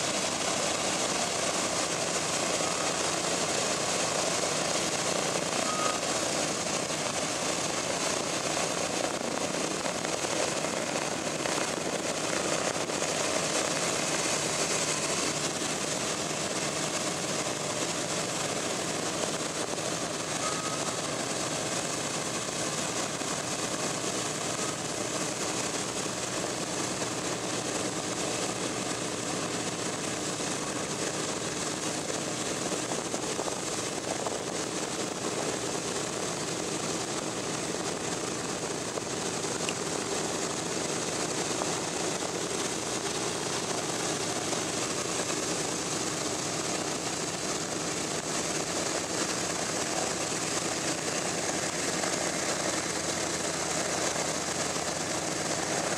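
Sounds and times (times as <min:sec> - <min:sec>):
piston aircraft engines running: 0:00.0 - 0:55.9.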